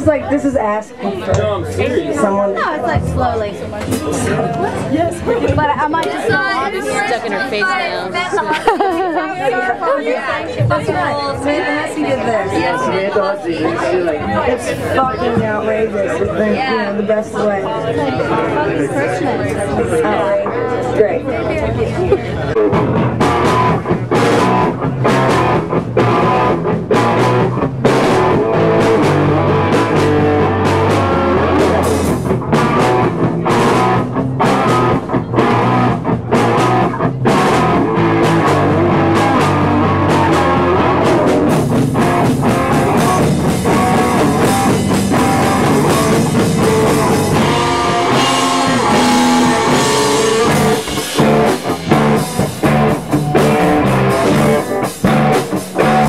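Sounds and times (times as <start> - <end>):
punk rock band playing: 1.4 - 13.2, 21.5 - 56.0.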